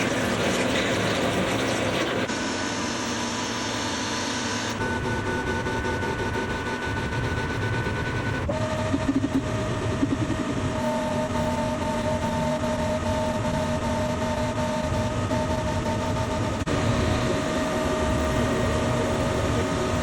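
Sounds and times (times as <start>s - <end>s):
machine tool whining: 0.0s - 20.0s.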